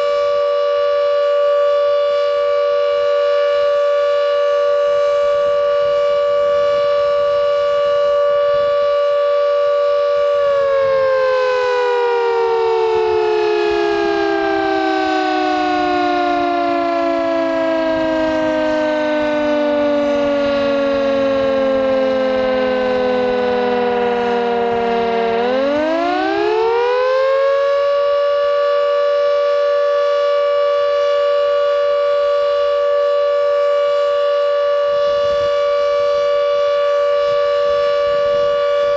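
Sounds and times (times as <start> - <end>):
motor siren two-note tone: 0.0 - 38.9.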